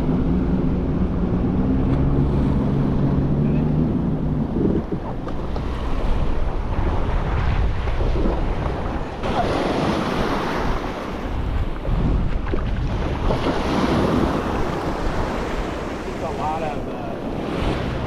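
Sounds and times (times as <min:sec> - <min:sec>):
surf washing in: 0:00.0 - 0:18.0
wind buffeting microphone: 0:00.0 - 0:18.0.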